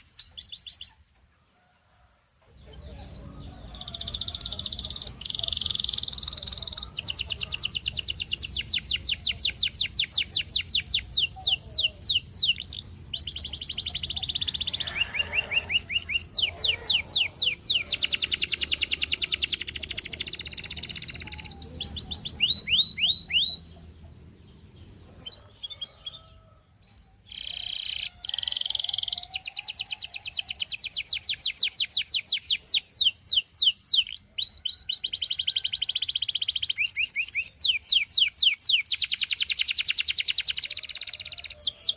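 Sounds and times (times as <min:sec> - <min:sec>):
canary singing trills: 0:00.0 - 0:01.0, 0:02.6 - 0:41.9.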